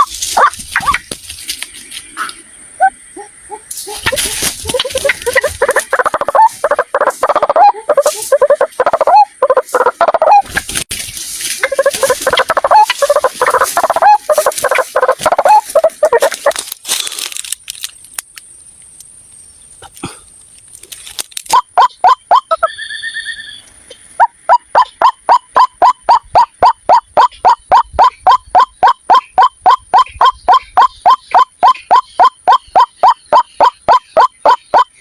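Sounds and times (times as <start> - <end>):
bird harsh repeated calls: 0.0 - 1.1, 2.0 - 10.8, 11.6 - 16.6, 21.5 - 35.0.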